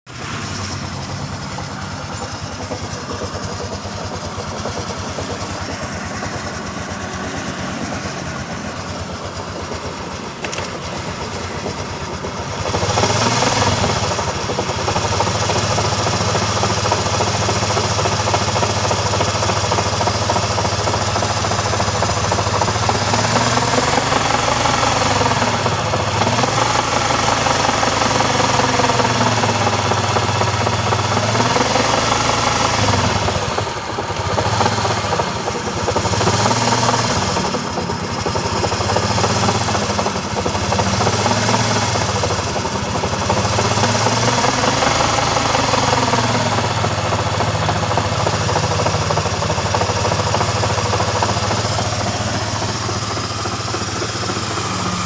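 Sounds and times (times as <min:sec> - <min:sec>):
scooter engine knocking: 0:00.2 - 0:55.0.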